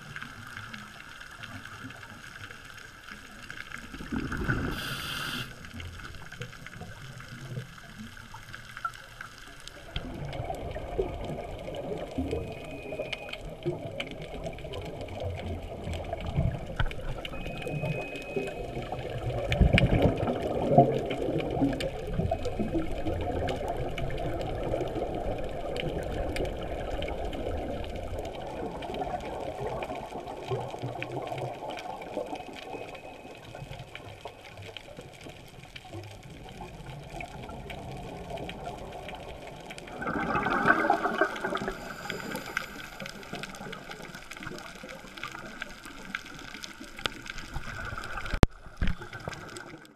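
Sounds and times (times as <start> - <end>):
underwater rushing bubbling water: 0.0 - 49.9.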